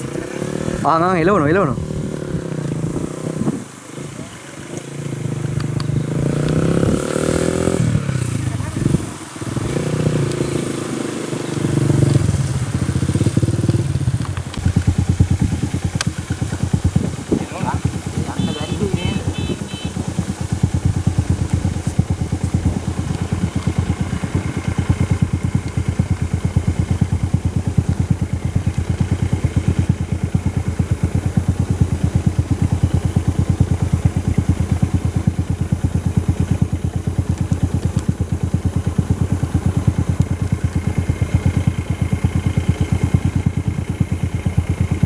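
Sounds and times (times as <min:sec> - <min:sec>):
vehicle engine idling: 0:00.0 - 0:45.0.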